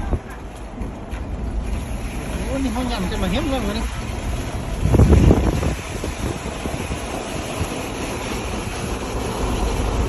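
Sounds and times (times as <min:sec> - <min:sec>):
hail and rain roaring: 0:00.0 - 0:10.0
wind gust on microphone: 0:00.0 - 0:10.0.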